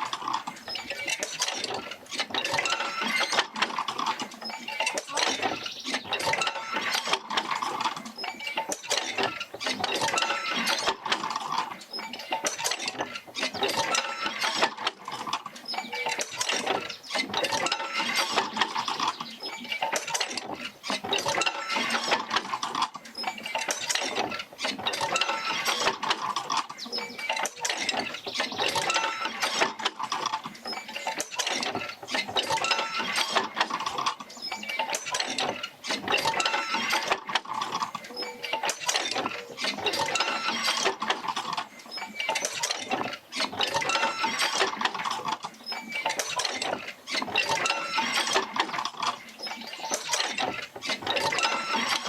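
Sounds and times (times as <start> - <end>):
clanking and creaking linkages: 0.0 - 52.0.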